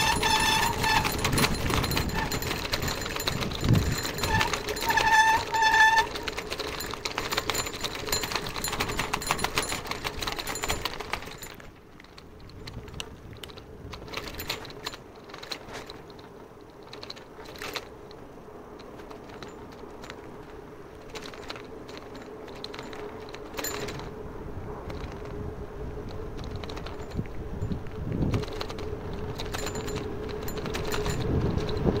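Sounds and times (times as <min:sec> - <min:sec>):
bicycle rattling over cobblestones: 0:00.0 - 0:32.0.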